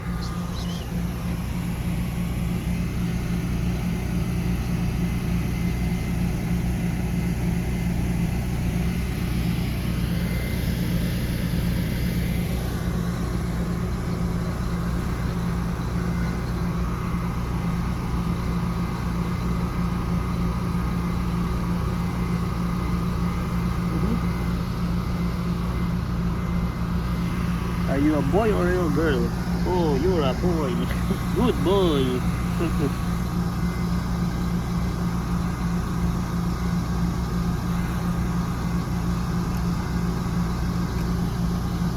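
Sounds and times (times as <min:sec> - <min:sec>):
concrete mixer engine humming: 0:00.0 - 0:41.9.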